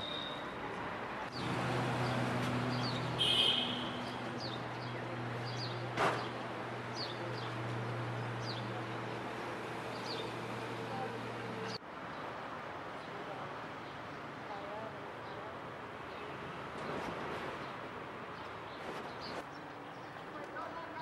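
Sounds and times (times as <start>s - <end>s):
small birds chirping: 1.3s - 12.4s, 13.0s - 21.0s.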